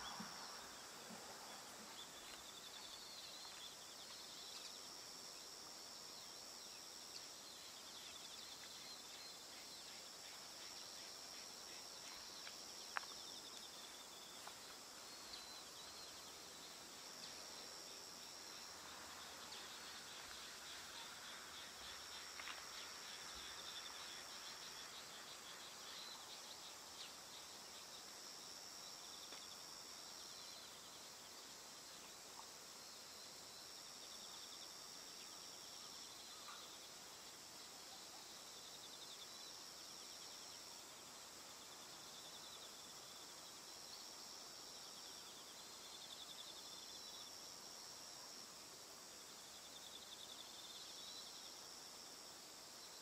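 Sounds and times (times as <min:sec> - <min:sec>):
insect chirps: 0:00.0 - 0:53.0
insects trilling: 0:00.0 - 0:53.0.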